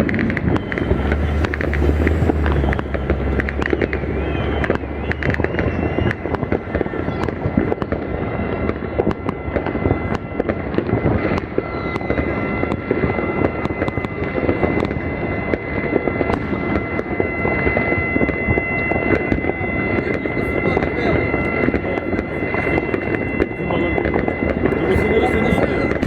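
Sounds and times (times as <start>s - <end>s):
distant fireworks rumble: 0.0s - 26.0s
fireworks bangs and crackles: 0.0s - 26.0s.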